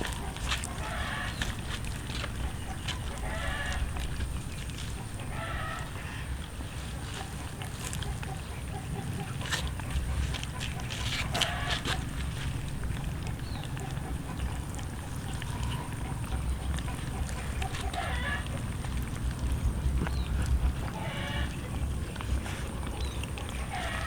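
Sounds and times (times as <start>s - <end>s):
cats chewing and crunching: 0.0s - 24.0s.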